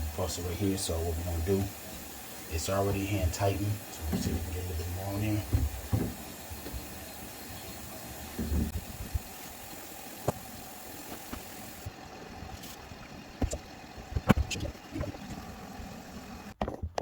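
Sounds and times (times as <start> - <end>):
steady hiss: 0.0 - 16.6.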